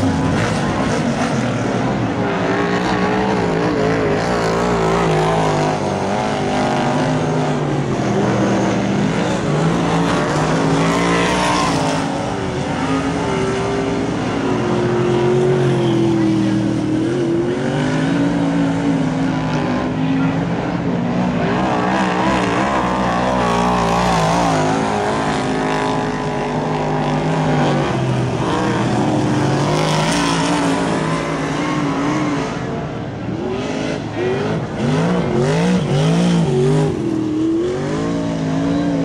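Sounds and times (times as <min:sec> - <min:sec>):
race car engines running hard: 0:00.0 - 0:39.0.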